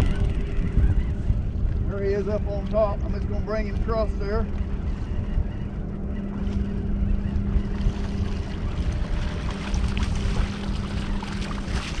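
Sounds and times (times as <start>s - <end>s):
boat motor hum: 0.0s - 12.0s
water lapping against boat hull: 0.0s - 12.0s
wind on microphone: 0.0s - 12.0s.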